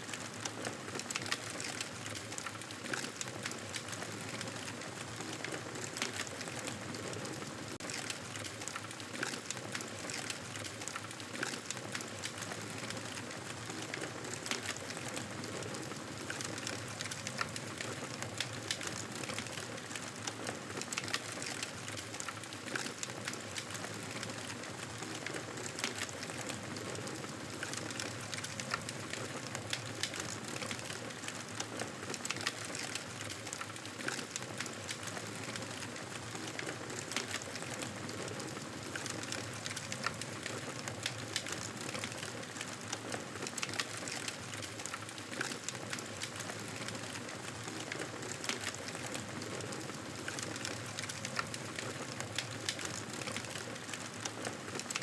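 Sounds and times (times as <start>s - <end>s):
campfire crackling: 7.8s - 55.0s.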